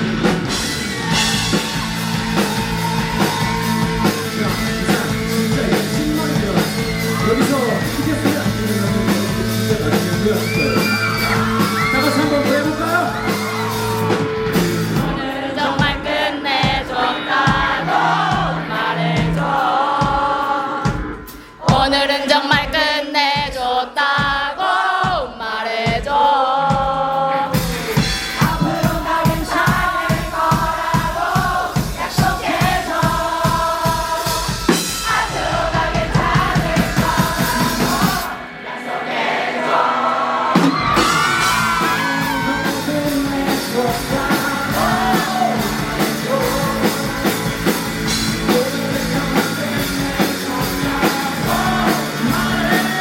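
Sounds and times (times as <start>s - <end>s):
rock band playing: 0.0s - 24.4s, 26.8s - 53.0s
man singing lead vocal: 3.2s - 38.5s, 39.7s - 53.0s.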